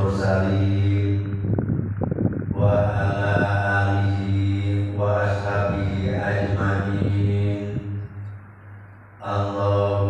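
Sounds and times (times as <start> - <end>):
man chanting into a microphone: 0.0 - 1.6, 2.5 - 8.4, 9.2 - 10.0.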